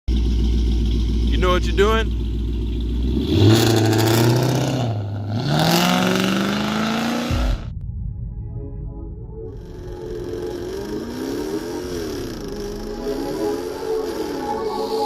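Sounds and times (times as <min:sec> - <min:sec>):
car engine revving: 0:00.1 - 0:07.8, 0:09.5 - 0:15.0.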